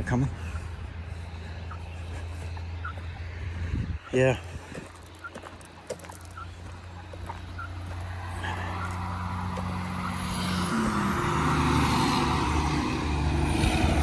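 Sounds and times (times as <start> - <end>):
truck engine and tyre noise: 0.0 - 14.0.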